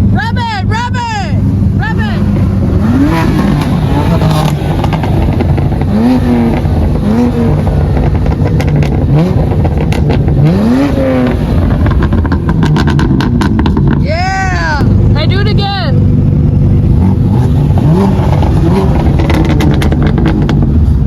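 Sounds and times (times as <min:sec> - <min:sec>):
car engines revving: 0:00.0 - 0:21.0
exhaust crackles: 0:00.0 - 0:21.0.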